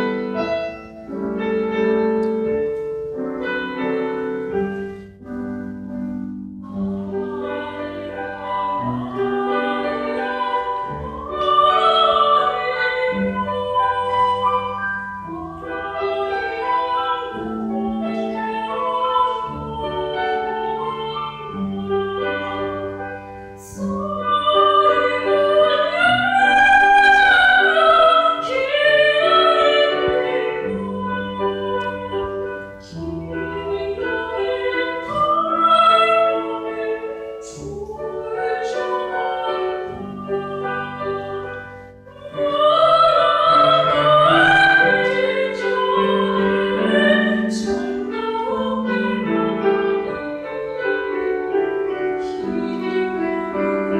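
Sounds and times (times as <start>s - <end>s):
piano accompaniment: 0.0s - 53.9s
soprano singing with vibrato: 6.6s - 53.9s.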